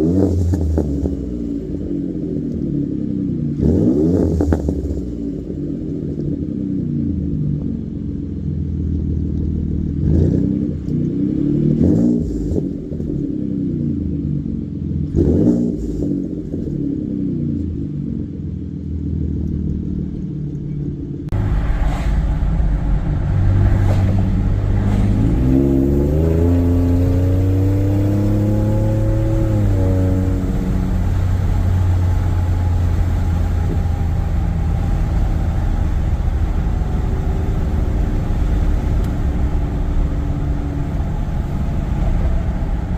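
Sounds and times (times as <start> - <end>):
engine heard from inside cab: 0.0 - 42.9
truck engine idling and revving: 0.0 - 42.9.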